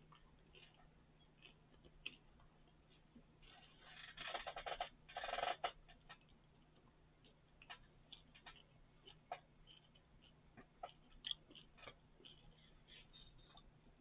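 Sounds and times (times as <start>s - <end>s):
chewing crunchy candy: 0.0s - 14.0s.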